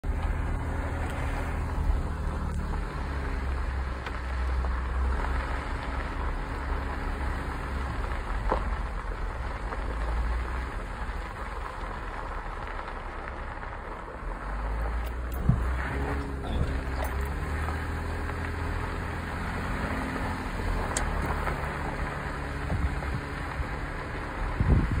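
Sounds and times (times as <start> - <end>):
car engine drone: 0.0 - 25.0
tyres crunching on gravel: 0.0 - 25.0.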